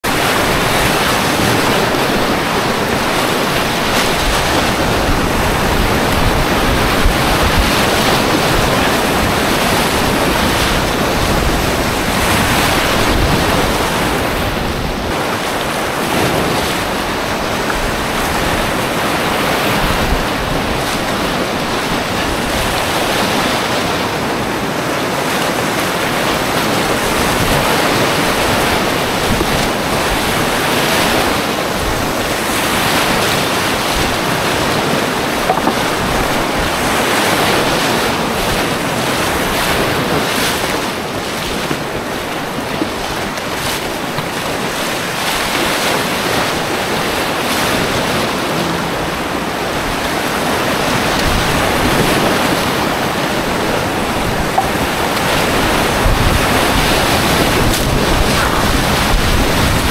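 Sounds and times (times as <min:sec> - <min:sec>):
whitewater rapids rushing: 0:00.0 - 0:59.9.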